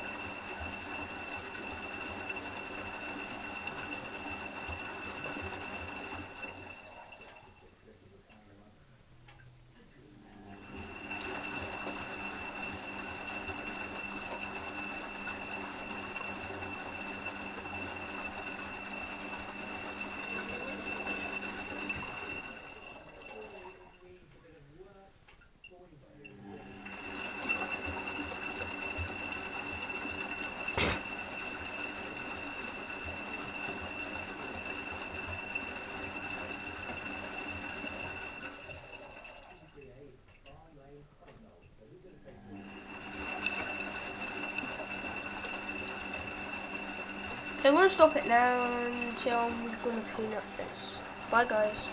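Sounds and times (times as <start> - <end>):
washing machine running: 0.0 - 51.9.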